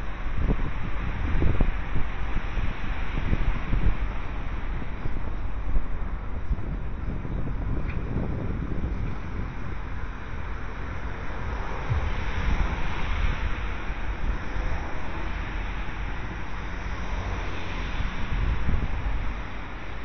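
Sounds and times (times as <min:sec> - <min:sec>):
steady outdoor hiss: 0:00.0 - 0:20.0
wind buffeting microphone: 0:00.0 - 0:20.0.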